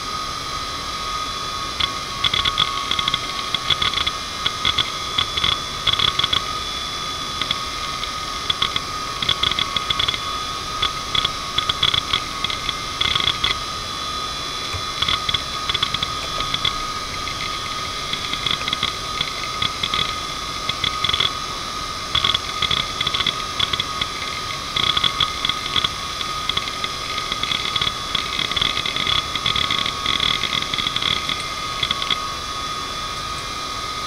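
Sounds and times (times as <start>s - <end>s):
hard drive spindle whine: 0.0s - 34.0s
hard drive heads clicking: 1.8s - 13.7s, 14.4s - 32.3s.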